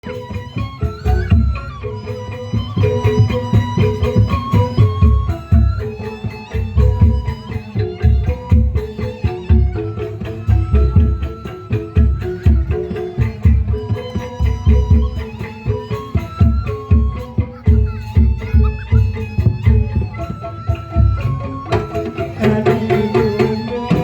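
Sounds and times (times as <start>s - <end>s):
plucked-string melody: 0.0s - 24.0s
thumping drum beat: 0.3s - 24.0s.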